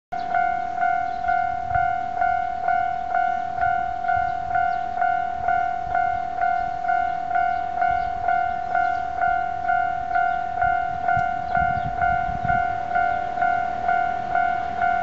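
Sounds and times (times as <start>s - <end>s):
level crossing warning bell: 0.1s - 15.0s.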